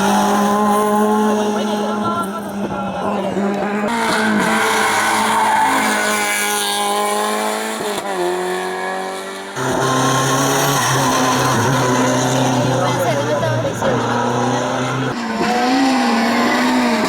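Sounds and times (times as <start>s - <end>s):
race car engines revving hard: 0.0s - 17.0s.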